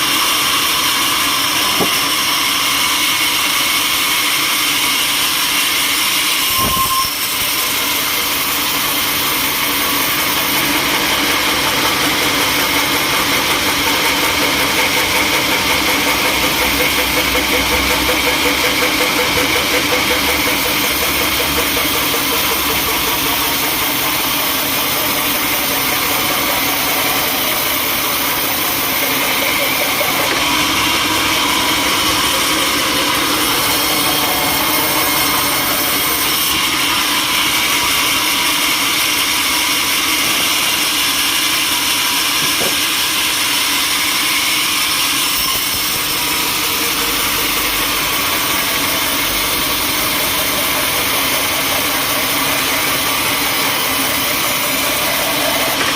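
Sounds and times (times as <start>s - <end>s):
sawmill machinery running: 0.0s - 55.9s.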